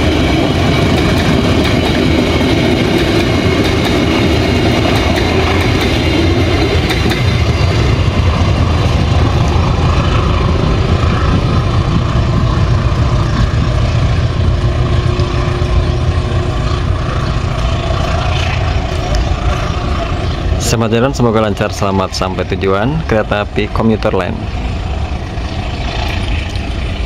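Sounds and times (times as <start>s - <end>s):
diesel locomotive engine droning: 0.0s - 27.0s.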